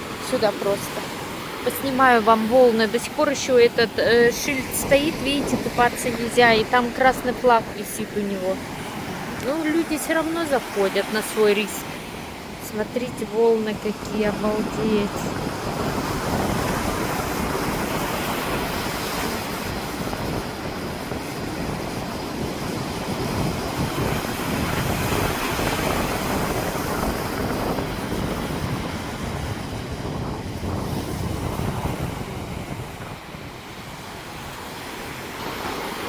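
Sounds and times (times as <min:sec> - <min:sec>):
heavy surf breaking on beach: 0:00.0 - 0:36.0
wind rumbling on microphone: 0:00.0 - 0:36.0.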